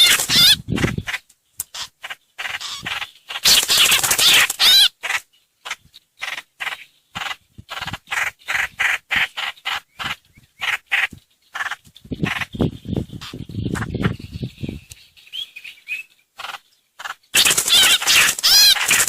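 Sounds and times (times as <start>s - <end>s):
bird chattering calls: 0.0s - 19.0s.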